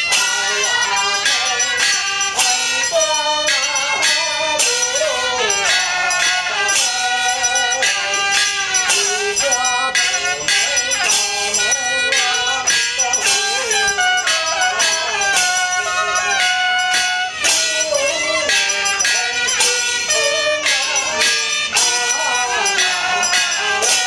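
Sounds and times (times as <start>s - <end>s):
cymbal clashes: 0.0s - 24.0s
jingling bells: 0.0s - 24.0s
percussion strikes: 0.0s - 24.0s.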